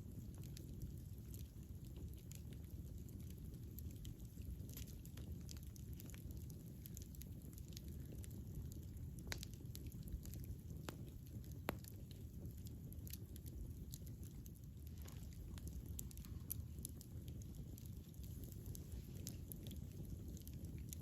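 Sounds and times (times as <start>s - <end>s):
burning wood crackling and popping: 0.0s - 21.0s
campfire low rumble: 0.0s - 21.0s.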